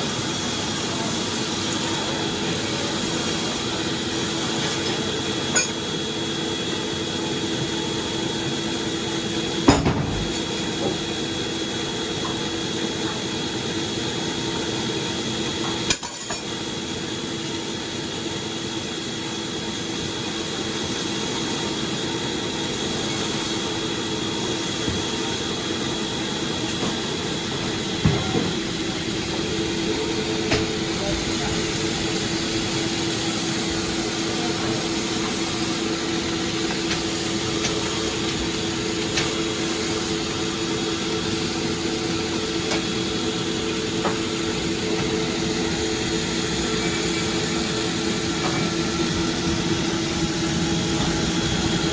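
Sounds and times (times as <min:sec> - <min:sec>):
sawmill machinery humming: 0:00.0 - 0:15.7, 0:16.7 - 0:51.9
high machine whine: 0:00.0 - 0:51.9.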